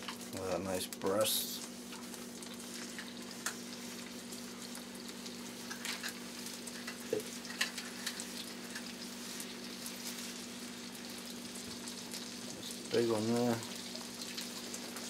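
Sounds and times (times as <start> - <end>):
crackles and pops of frying: 0.0 - 15.0
meat sizzling in a frying pan: 0.0 - 15.0.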